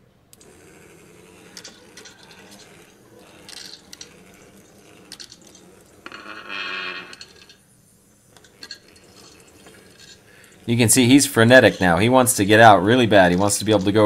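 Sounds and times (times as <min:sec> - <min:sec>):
loud buzzing: 0:00.0 - 0:14.0
small electric motors running: 0:00.3 - 0:14.0.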